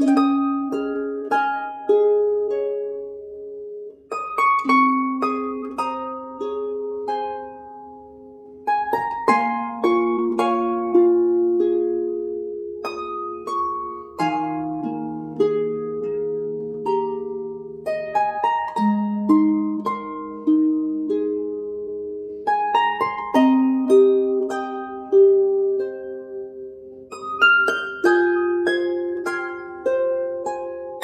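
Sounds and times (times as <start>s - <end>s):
plucked string chords: 0.0s - 31.0s.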